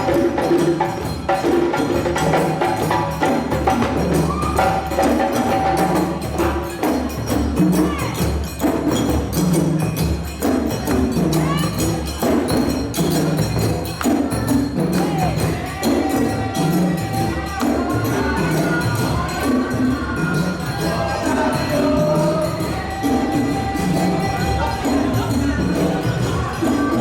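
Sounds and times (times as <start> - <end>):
jingling shakers: 0.0 - 27.0
percussion ensemble drumming: 0.0 - 27.0.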